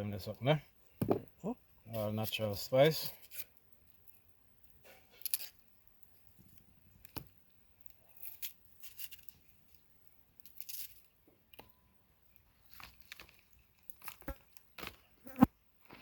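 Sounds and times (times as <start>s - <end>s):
hands scraping and crinkling food: 1.9s - 11.7s, 12.3s - 15.2s, 15.8s - 16.0s.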